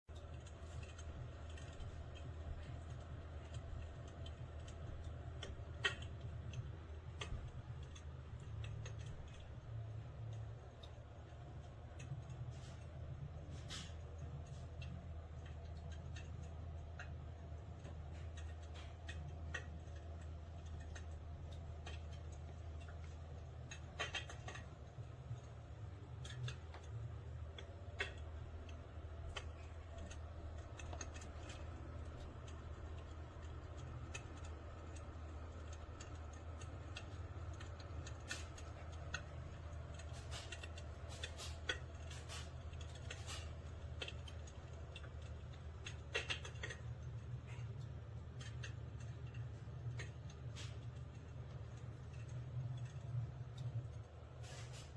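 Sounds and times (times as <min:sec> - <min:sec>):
steady low hum: 0:00.0 - 0:54.9
simulated fire crackling: 0:00.1 - 0:54.9.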